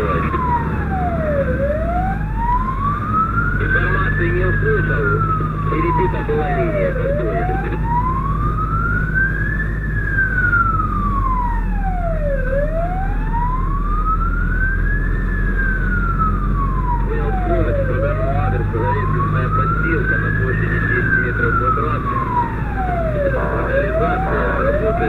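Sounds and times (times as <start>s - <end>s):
fire engine wail siren: 0.0s - 25.0s
truck engine hum: 0.0s - 25.0s.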